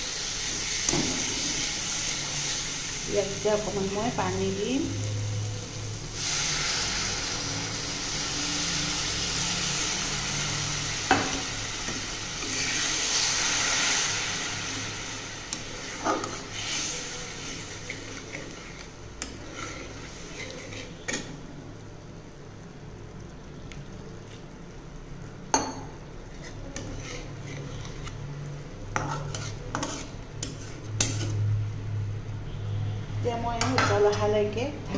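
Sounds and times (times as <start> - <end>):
water sizzling in hot pan: 0.0 - 31.1.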